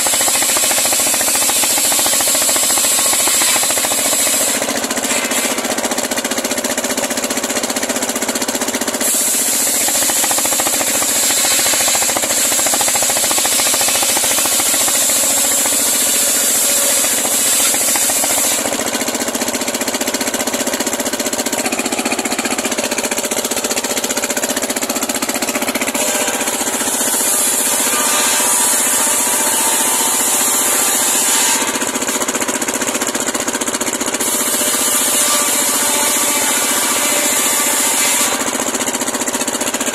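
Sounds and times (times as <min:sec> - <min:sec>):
circular saw cutting log: 0:00.0 - 0:39.9.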